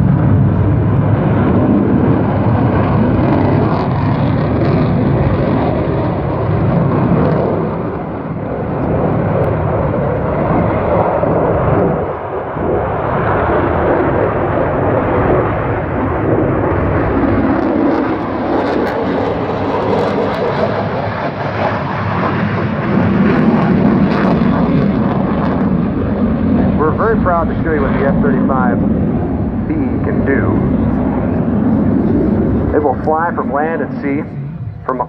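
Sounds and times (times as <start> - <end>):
jet roaring past: 0.0 - 35.0.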